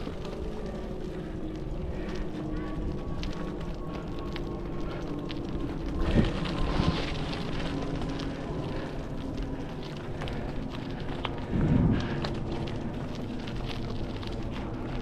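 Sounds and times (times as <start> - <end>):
bicycle tyres crunching on gravel: 0.0 - 15.0
wind buffeting microphone: 0.0 - 15.0.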